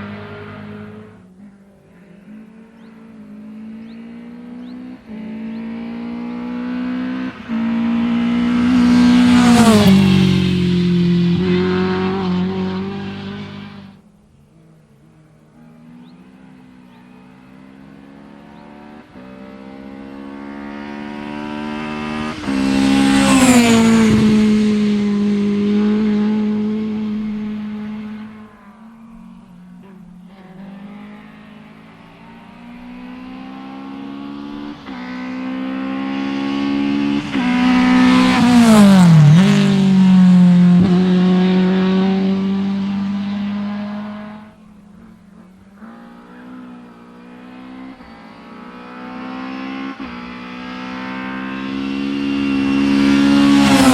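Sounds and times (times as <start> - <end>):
racing cars passing at full throttle: 0.0 - 53.9.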